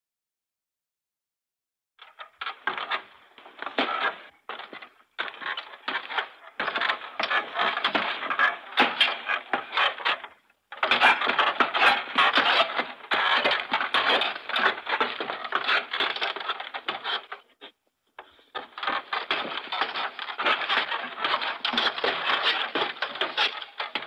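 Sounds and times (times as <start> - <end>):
footsteps on creaking wood: 2.0 - 24.0.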